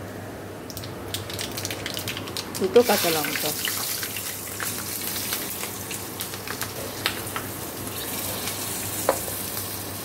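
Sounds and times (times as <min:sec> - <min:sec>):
seeds sizzling in hot oil: 0:00.8 - 0:10.0.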